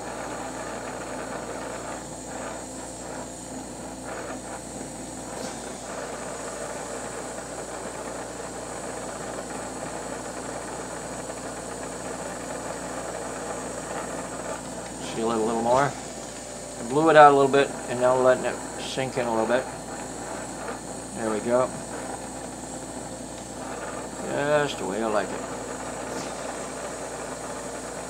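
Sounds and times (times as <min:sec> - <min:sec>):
torch flame hissing: 0:00.0 - 0:28.0.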